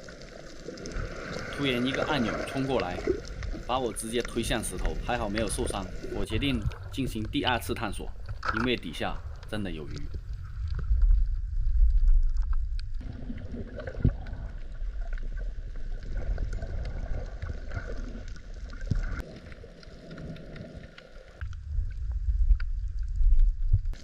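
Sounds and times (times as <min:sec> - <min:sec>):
faint underwater clicks: 0:00.0 - 0:24.0
underwater surge rumbling: 0:00.0 - 0:24.0.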